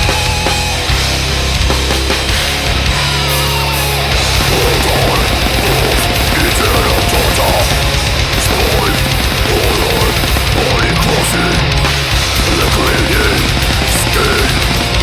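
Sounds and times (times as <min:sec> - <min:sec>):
heavy rock music: 0:00.0 - 0:15.0.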